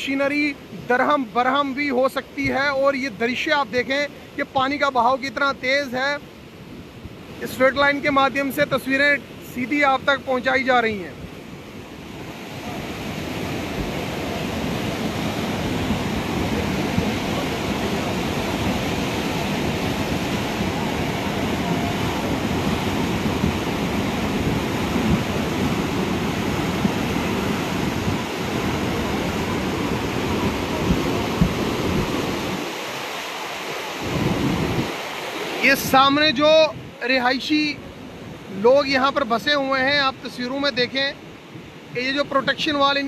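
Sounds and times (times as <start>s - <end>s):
floodwater rushing roar: 0.0s - 43.0s.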